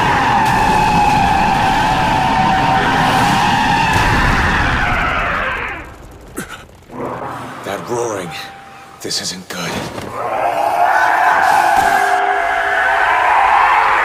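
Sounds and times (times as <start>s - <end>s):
monster roaring: 0.0s - 8.0s, 10.1s - 14.0s.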